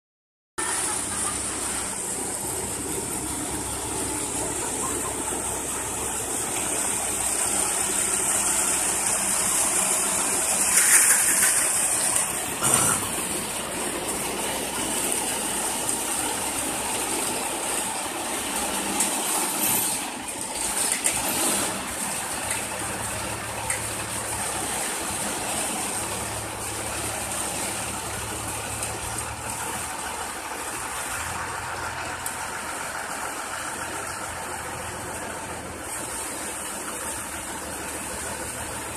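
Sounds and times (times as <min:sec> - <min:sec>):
crane engine and hydraulics: 0:00.6 - 0:38.9.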